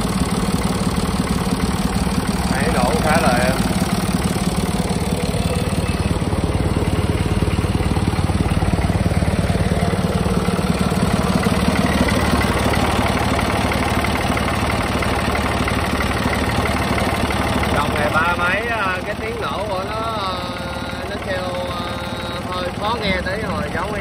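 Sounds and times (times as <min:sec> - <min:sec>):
diesel tractor engine idling: 0:00.0 - 0:24.0.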